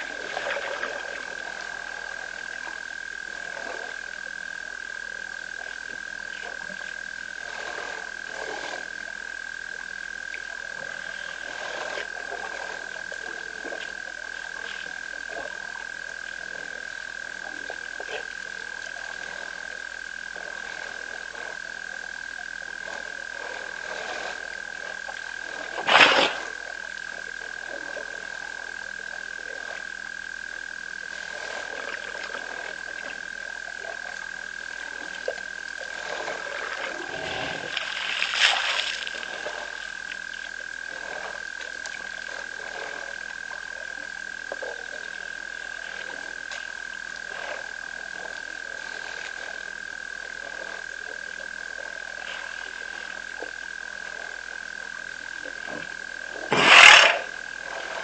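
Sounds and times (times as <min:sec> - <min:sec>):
frogs chorus: 0:00.0 - 0:58.0.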